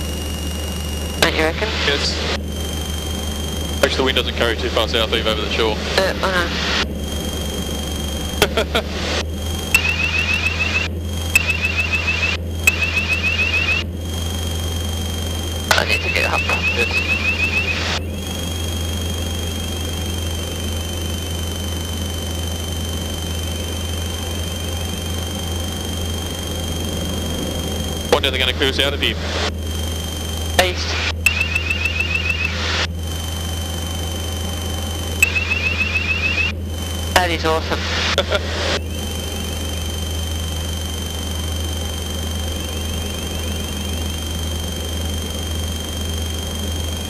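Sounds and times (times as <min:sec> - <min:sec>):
aircraft engine and propeller drone: 0:00.0 - 0:47.0
thin high whine: 0:00.0 - 0:47.0.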